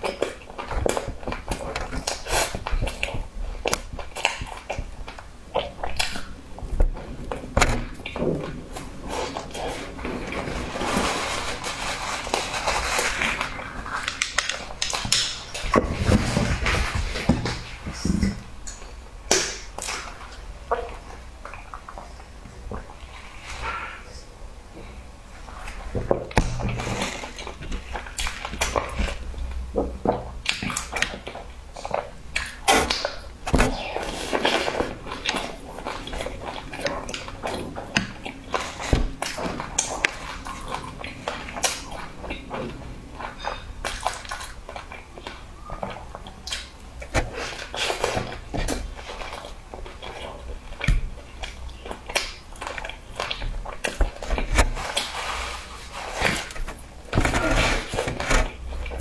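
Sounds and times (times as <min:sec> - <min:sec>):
person chewing crunchy food: 0:00.0 - 0:24.0, 0:25.4 - 0:59.0.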